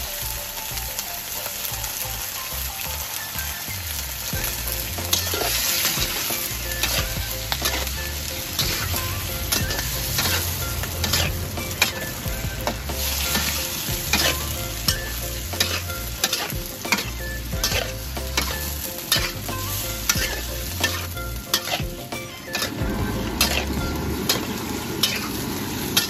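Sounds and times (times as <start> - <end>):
seafood sizzling in a wok: 0.0 - 26.0
spatula scraping and knocking wok: 4.3 - 26.0.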